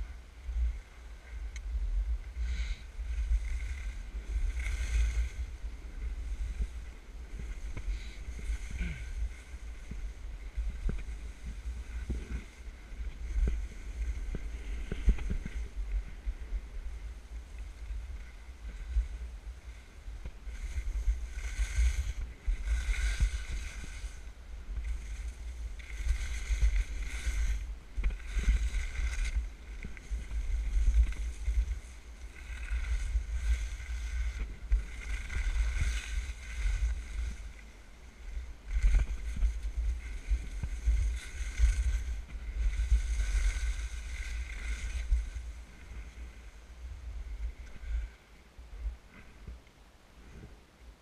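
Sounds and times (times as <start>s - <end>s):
wind buffeting microphone: 0.0s - 48.1s
skis scraping over snow: 0.0s - 49.6s, 50.2s - 50.6s.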